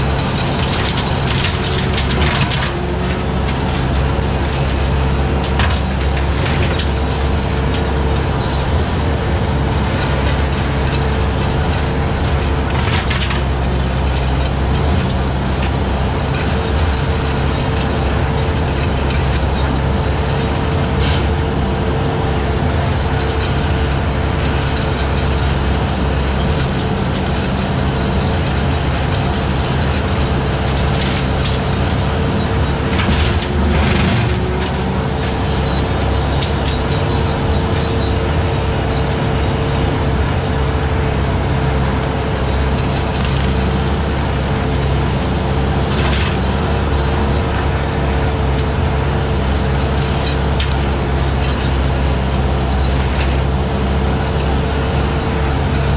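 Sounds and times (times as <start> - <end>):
skid steer engine running: 0.0 - 55.9.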